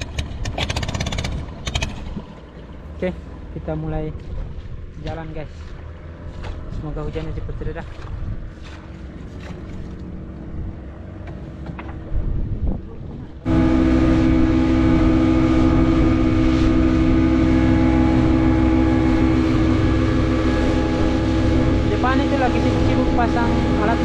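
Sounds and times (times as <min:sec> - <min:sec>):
boat engine drone: 0:00.0 - 0:24.0
low rumble: 0:00.0 - 0:24.0.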